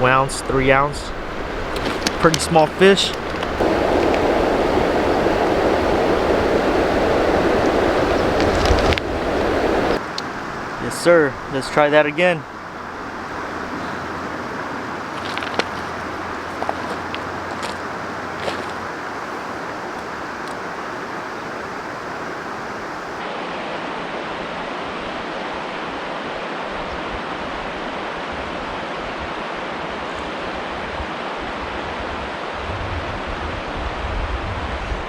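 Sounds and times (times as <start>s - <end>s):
river water rushing over a drop: 0.0s - 32.6s.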